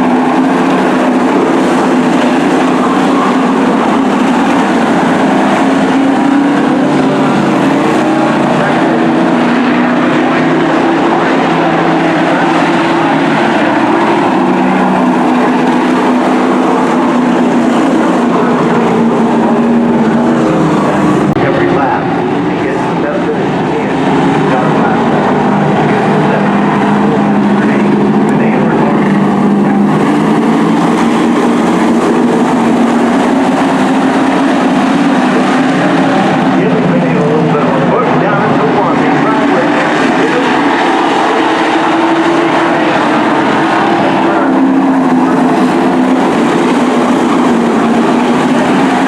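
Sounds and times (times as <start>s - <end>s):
race truck engines droning: 0.0s - 49.0s.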